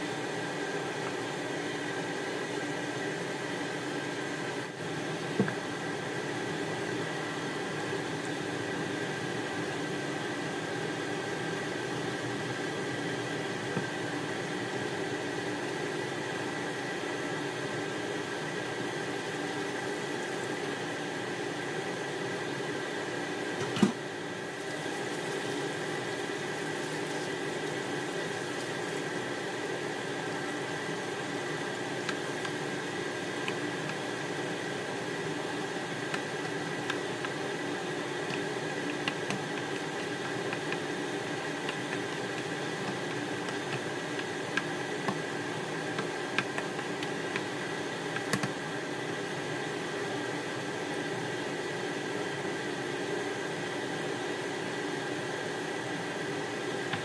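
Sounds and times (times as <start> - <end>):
induction cooktop hum with whine: 0.0 - 57.0.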